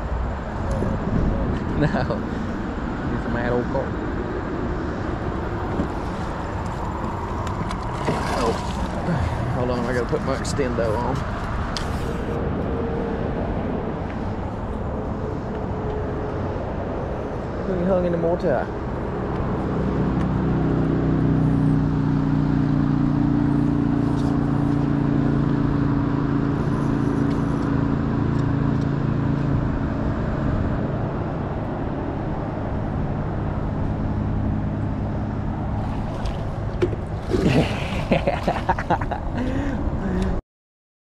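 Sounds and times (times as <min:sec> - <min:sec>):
engine low hum: 0:00.0 - 0:40.4.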